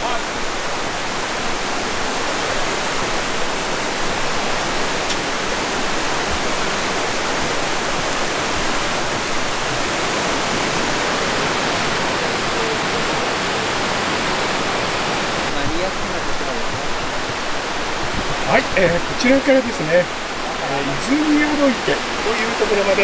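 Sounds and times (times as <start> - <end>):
rushing river water: 0.0 - 23.0.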